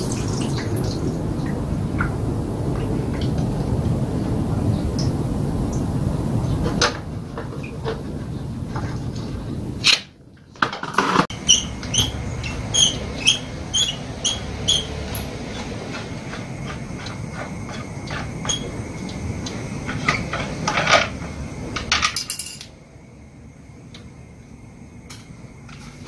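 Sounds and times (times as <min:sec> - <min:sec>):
steady low hum: 0:00.0 - 0:10.6, 0:11.2 - 0:26.0.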